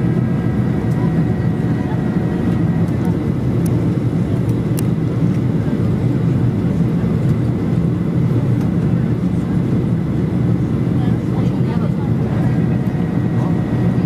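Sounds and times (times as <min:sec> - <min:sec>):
airliner cabin roar: 0:00.0 - 0:14.0.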